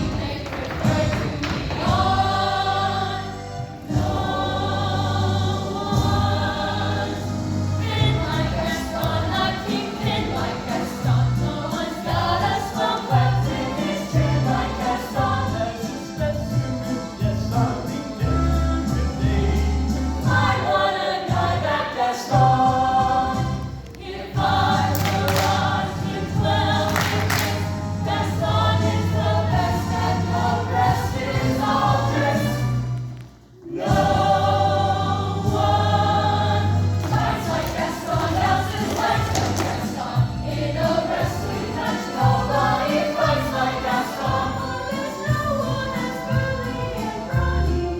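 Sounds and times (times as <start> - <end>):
choir singing: 0.0 - 33.0, 33.6 - 47.9
instrumental accompaniment: 0.0 - 47.9.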